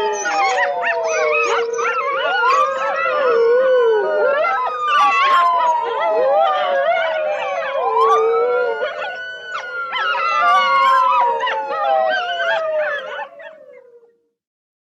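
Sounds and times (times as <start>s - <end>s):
dogs howling: 0.0s - 14.2s
emergency siren wailing: 0.0s - 14.2s.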